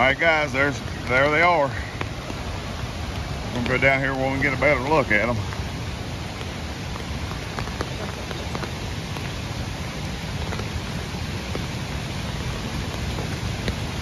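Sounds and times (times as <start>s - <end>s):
creek rushing: 0.0s - 14.0s
raindrops ticking: 0.0s - 14.0s
steady rain falling: 0.0s - 14.0s.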